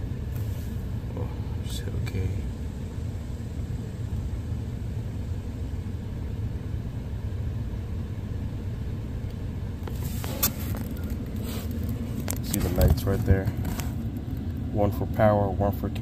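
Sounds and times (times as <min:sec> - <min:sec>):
low rumble of road vehicles: 0:00.0 - 0:16.0.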